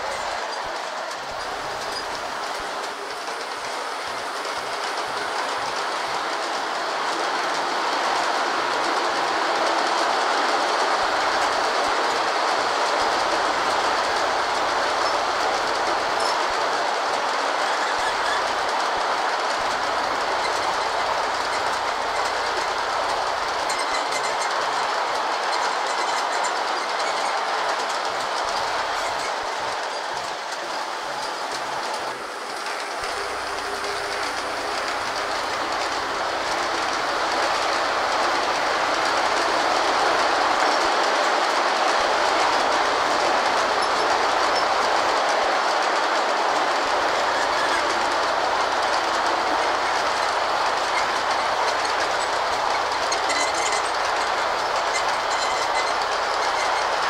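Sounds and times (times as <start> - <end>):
model train wheels clattering: 0.0 - 57.0.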